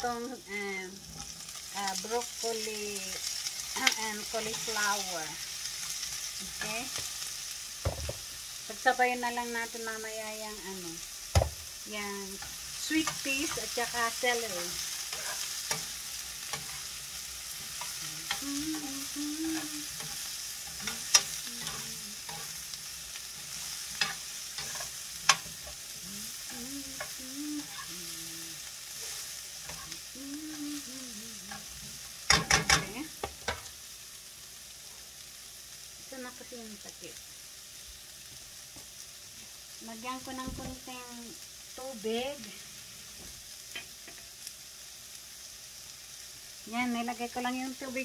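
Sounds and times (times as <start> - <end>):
vegetables sizzling in a pan: 0.0 - 48.0.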